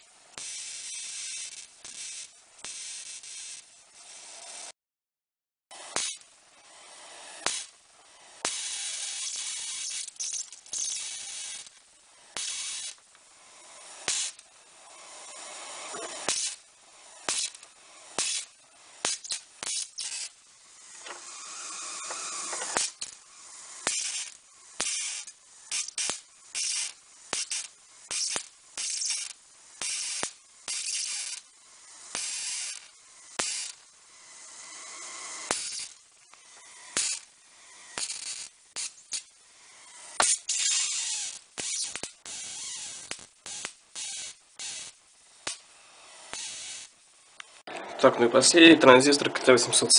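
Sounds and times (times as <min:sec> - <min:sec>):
electric arc crackling and hissing: 0:00.0 - 0:04.7, 0:05.7 - 0:49.9
faint hiss: 0:00.0 - 0:04.7, 0:05.8 - 0:49.9.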